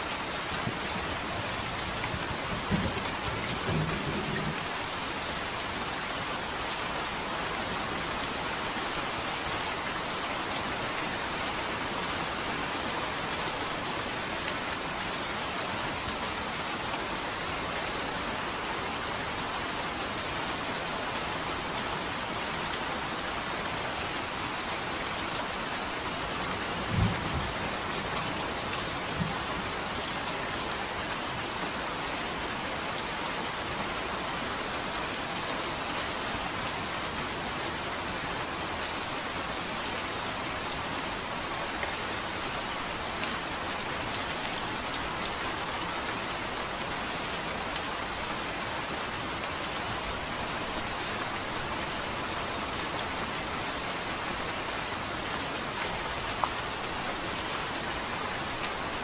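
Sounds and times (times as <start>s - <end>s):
rain falling on a surface: 0.0s - 59.0s.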